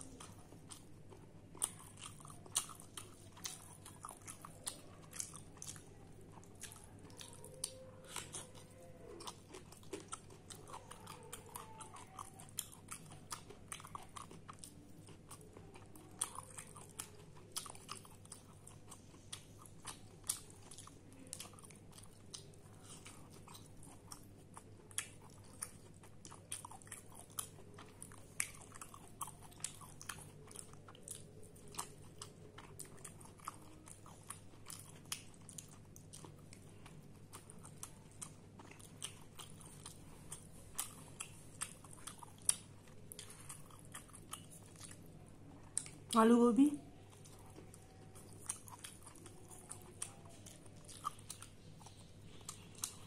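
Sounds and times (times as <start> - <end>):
crunchy chewing: 0.0 - 46.2, 46.8 - 53.0.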